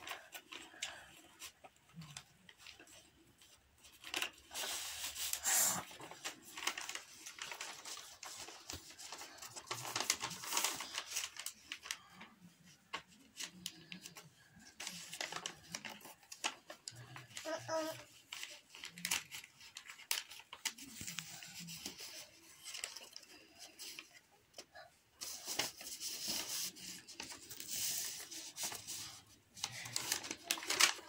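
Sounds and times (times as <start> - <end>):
paper rustling and crinkling: 0.0 - 31.0.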